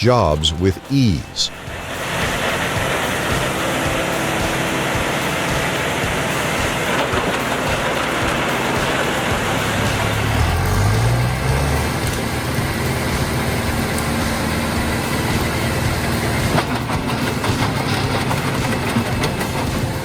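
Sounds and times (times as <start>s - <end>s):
wood chipper engine droning: 1.5s - 20.0s.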